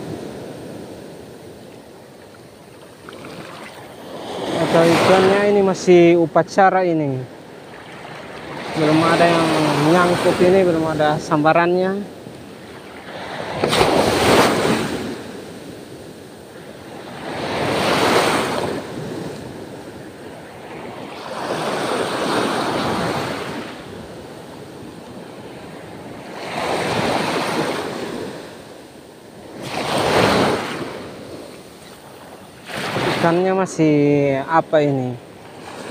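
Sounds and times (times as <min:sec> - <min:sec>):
small waves washing ashore: 0:00.0 - 0:35.9.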